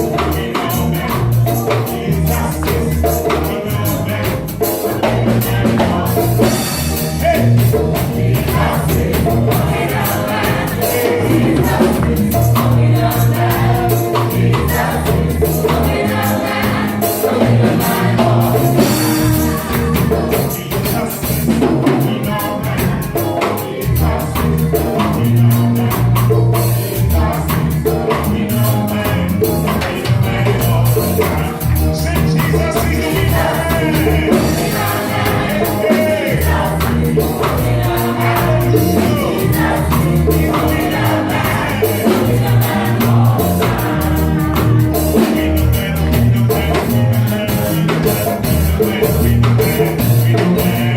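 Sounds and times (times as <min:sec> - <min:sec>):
deep bass notes: 0:00.0 - 0:50.9
drum kit: 0:00.0 - 0:50.9
gospel worship music: 0:00.0 - 0:50.9.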